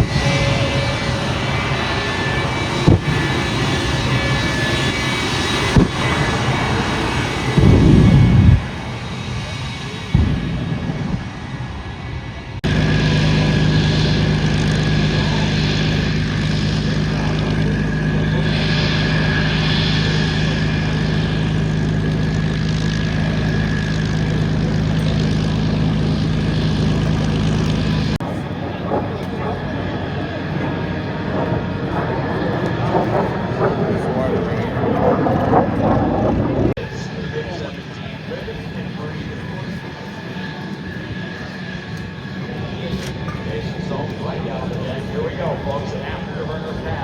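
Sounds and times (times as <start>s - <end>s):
aircraft engine running: 0.0s - 47.0s.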